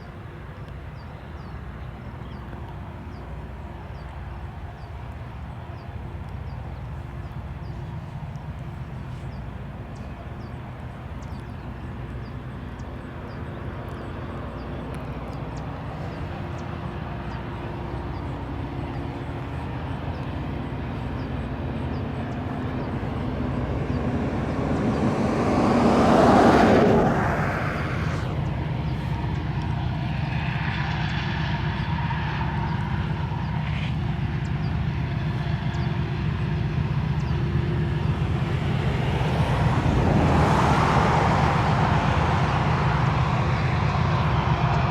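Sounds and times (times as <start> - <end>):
locomotive engine drone: 0.0 - 44.9.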